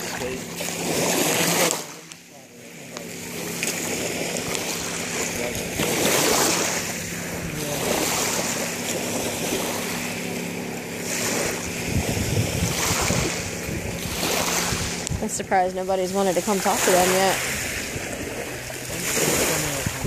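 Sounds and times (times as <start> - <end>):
lapping water: 0.0 - 20.0
wind gusting on microphone: 3.2 - 20.0.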